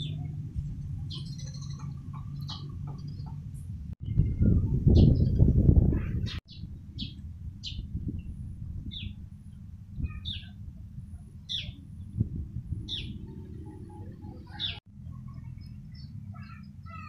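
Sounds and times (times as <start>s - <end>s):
sparrows chirping: 0.0s - 4.3s, 4.9s - 5.4s, 6.0s - 17.0s
low background rumble: 0.0s - 17.0s.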